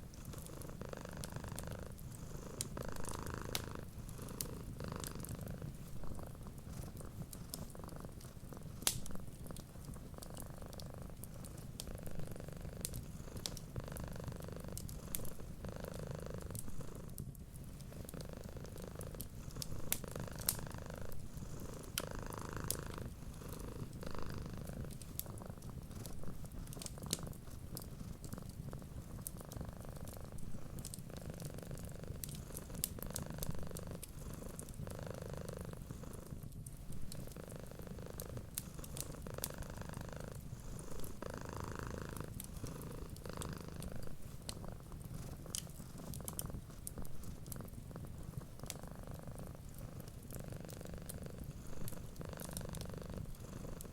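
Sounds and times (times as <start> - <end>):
cat purring: 0.0 - 53.9
fireplace fire crackling: 0.0 - 53.9.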